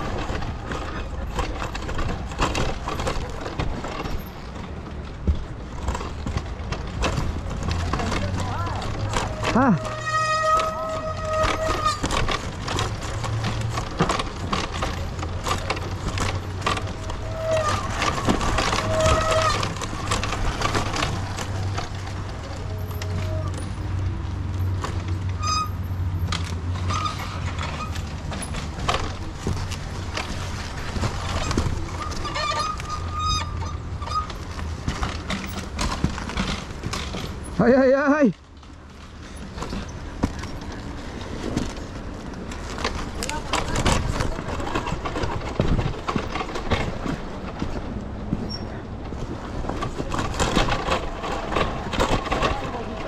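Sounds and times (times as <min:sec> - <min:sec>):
bike knocking over roots: 0:00.0 - 0:53.0.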